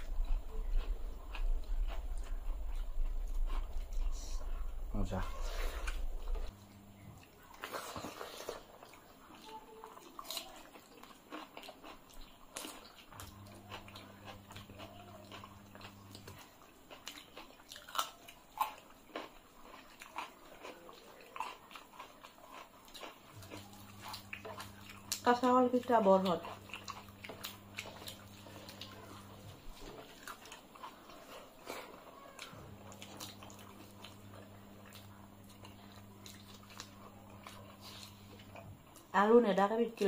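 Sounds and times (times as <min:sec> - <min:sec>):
wet chewing and lip smacks: 0:00.0 - 0:04.8, 0:07.2 - 0:39.1.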